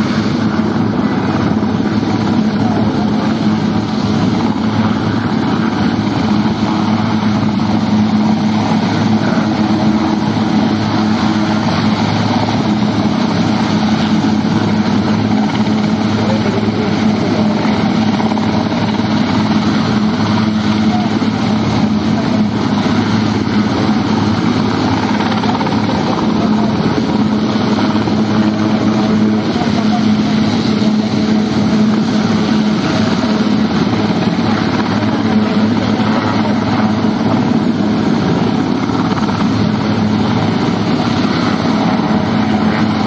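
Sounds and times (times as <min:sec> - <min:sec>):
helicopter hovering: 0:00.0 - 0:43.0.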